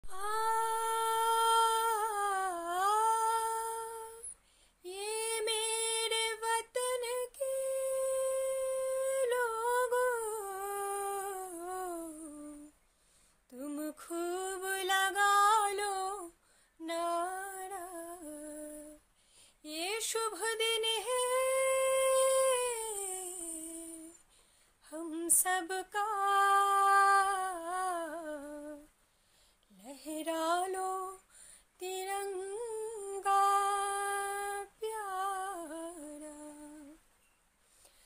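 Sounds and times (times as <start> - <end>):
woman singing unaccompanied: 0.0 - 12.8, 13.5 - 24.2, 24.8 - 28.9, 29.7 - 37.0.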